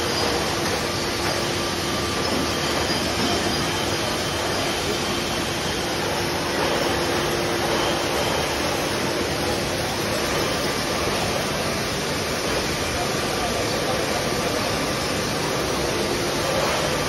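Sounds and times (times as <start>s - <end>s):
bottling machines running: 0.0s - 17.0s.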